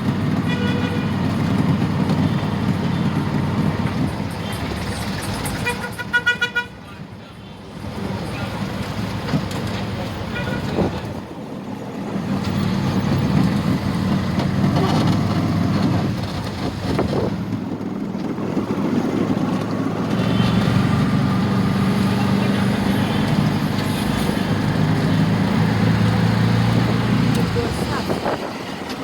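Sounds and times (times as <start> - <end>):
vehicle engine running: 0.0 - 6.0, 7.5 - 29.0
road traffic: 0.0 - 29.0.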